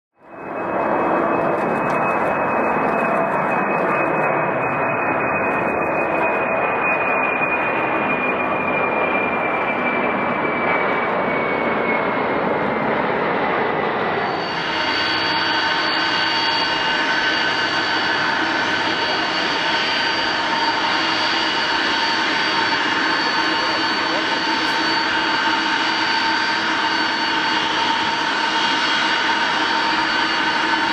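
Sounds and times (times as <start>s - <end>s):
aircraft engines with high whining tones: 0.2s - 30.9s
jet engines rushing with whine: 0.2s - 30.9s.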